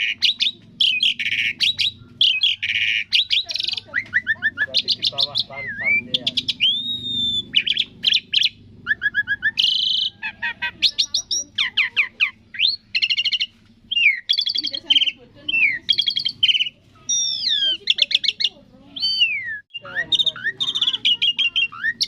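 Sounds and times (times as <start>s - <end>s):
starling singing: 0.0s - 22.0s.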